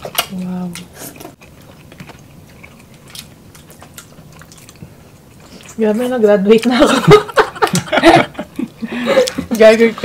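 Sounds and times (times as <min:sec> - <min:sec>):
people chewing wetly: 0:00.0 - 0:10.0.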